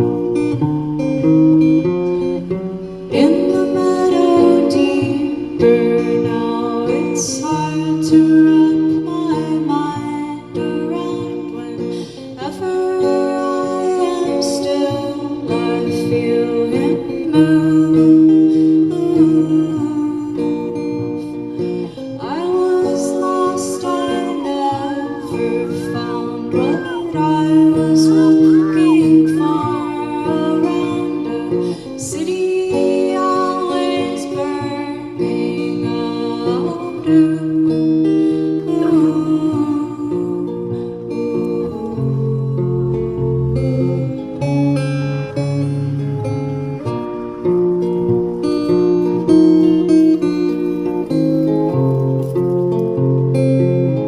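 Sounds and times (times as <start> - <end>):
live guitar chords bending: 0.0 - 54.0.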